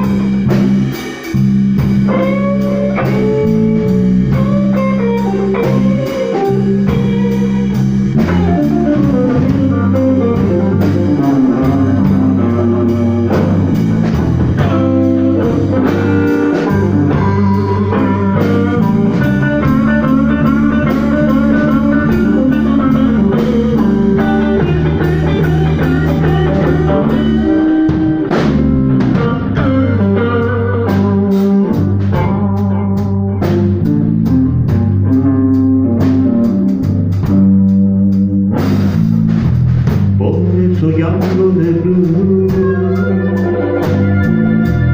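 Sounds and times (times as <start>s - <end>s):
bass line: 0.0s - 44.9s
drum kit: 0.0s - 44.9s
guitar: 0.0s - 44.9s.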